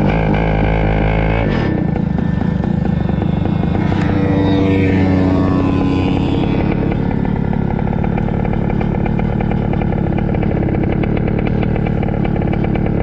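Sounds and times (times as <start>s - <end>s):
kart engine running: 0.0s - 13.0s.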